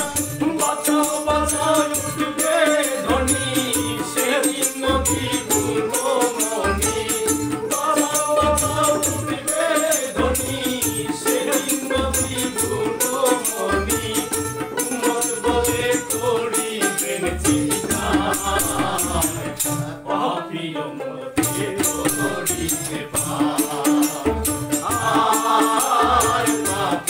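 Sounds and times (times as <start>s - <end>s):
tabla: 0.0s - 20.1s, 21.4s - 27.0s
jingling frame drum: 0.0s - 20.3s, 21.4s - 27.0s
man singing: 0.0s - 27.0s.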